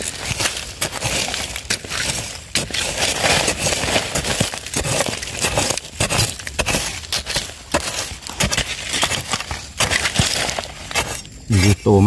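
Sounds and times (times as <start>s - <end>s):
spade chopping into dry soil: 0.0s - 11.8s
loose earth spilling: 0.0s - 12.0s.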